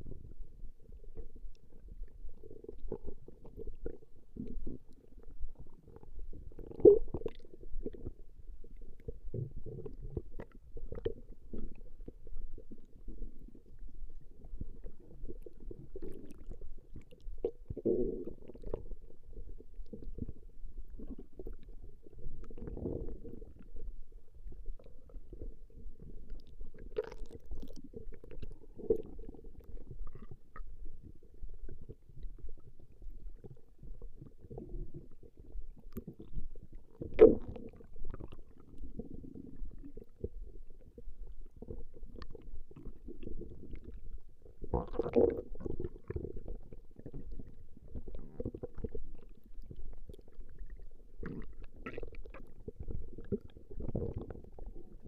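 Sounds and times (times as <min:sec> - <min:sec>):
stomach growling: 0:00.0 - 0:55.0.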